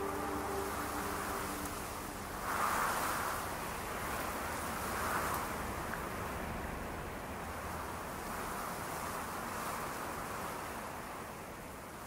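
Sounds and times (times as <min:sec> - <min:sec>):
sea wash: 0:00.0 - 0:11.4
wind: 0:00.0 - 0:12.0.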